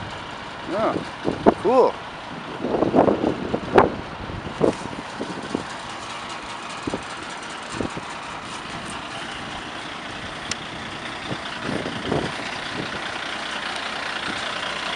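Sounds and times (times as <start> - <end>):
diesel truck engine idling: 0.0 - 14.9.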